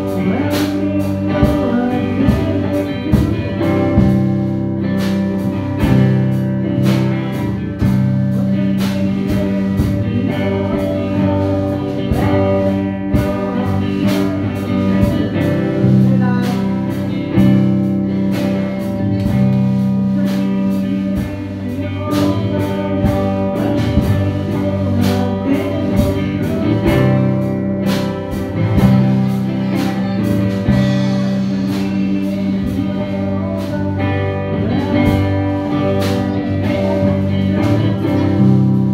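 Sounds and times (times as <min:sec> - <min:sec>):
drum kit steady beat: 0:00.0 - 0:38.9
guitar: 0:00.0 - 0:38.9.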